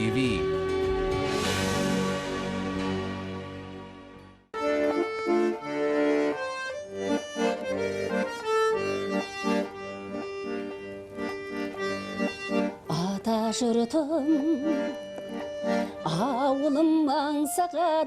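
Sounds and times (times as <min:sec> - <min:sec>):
accordion playing chords: 0:00.0 - 0:18.0.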